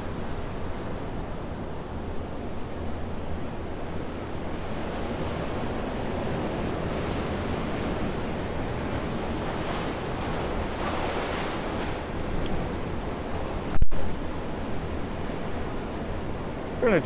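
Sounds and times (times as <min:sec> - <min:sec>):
ocean surf breaking on rocks: 0:00.0 - 0:17.0.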